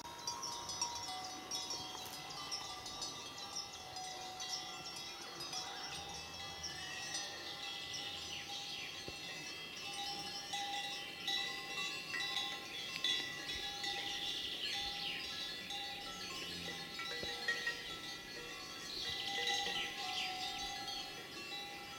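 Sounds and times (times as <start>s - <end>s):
horse collar bells clanking: 0.0s - 21.9s.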